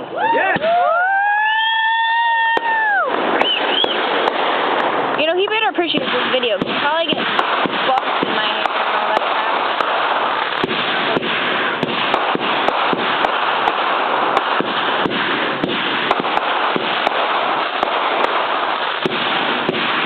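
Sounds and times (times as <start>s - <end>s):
fireworks crackling: 0.0s - 20.0s
fireworks shells cracking: 0.6s - 20.0s.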